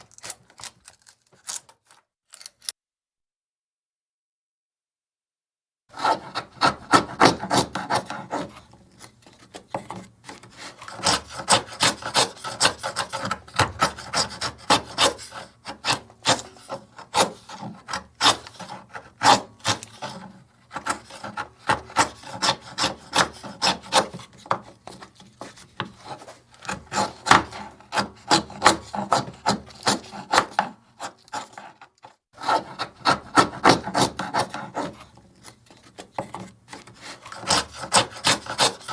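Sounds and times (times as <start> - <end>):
chisel scraping wood: 5.9 - 38.9.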